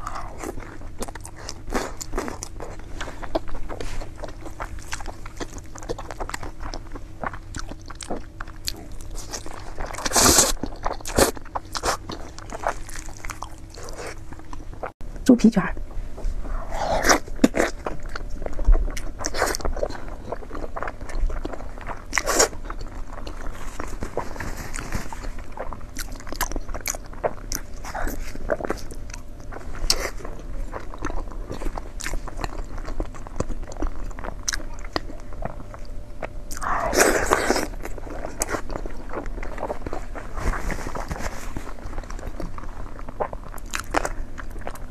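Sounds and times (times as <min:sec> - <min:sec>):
person chewing crunchy food: 0:00.0 - 0:15.0, 0:16.4 - 0:44.9.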